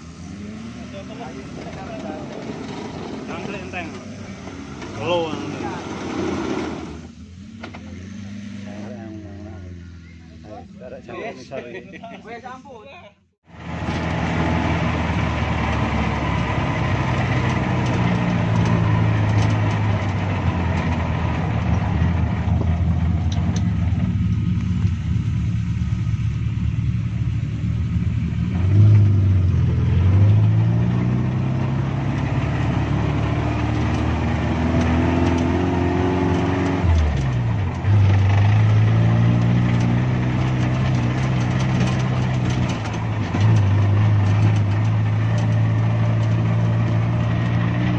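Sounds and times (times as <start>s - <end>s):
car engine pulling in low gear: 0.0s - 11.0s, 13.5s - 47.9s.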